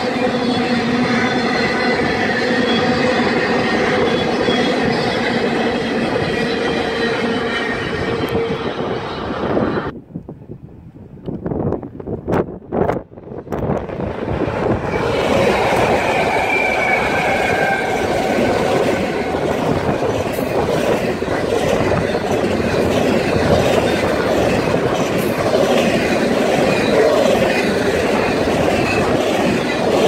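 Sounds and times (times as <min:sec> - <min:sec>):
diesel locomotives passing: 0:00.0 - 0:10.0, 0:11.6 - 0:30.0
steel wheels rumbling on rail: 0:00.0 - 0:10.0, 0:11.2 - 0:30.0.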